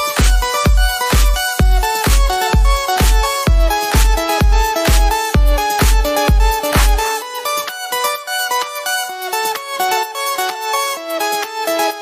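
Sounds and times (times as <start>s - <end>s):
quick melodic background music: 0.0s - 12.0s.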